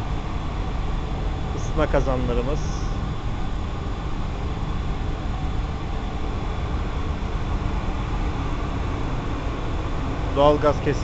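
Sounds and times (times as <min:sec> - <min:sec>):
boiler room machinery drone: 0:00.0 - 0:11.0
faint hum tones: 0:00.0 - 0:11.0.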